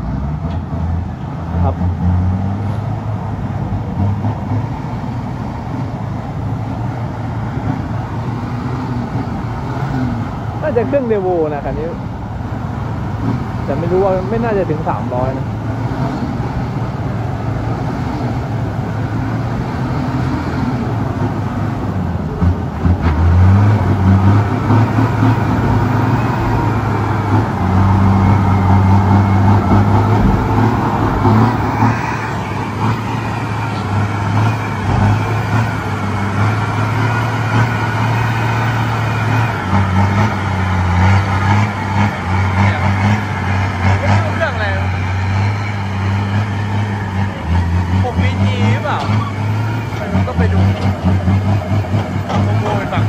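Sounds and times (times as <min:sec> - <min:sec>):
diesel truck engine under load: 0:00.0 - 0:53.0.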